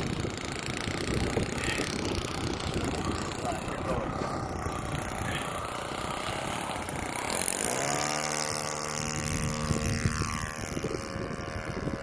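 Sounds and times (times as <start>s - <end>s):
model airplane engine whining: 0.0s - 12.0s.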